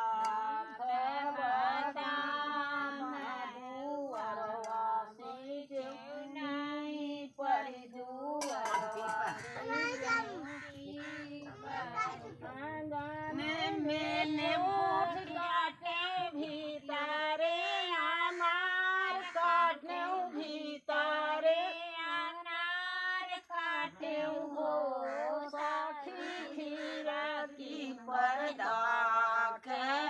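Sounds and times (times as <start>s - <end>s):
women singing unaccompanied: 0.0s - 30.0s.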